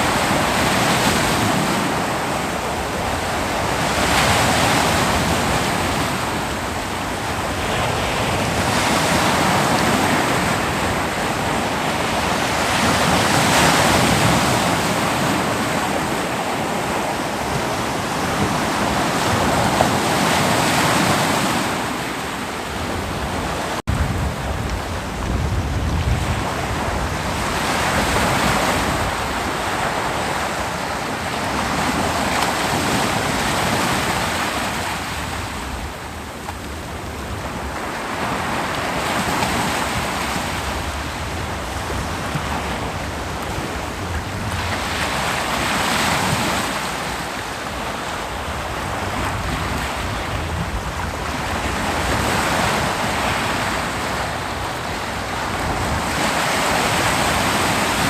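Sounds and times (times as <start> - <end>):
ocean surf breaking: 0.0 - 58.0
wind on microphone: 0.0 - 58.0.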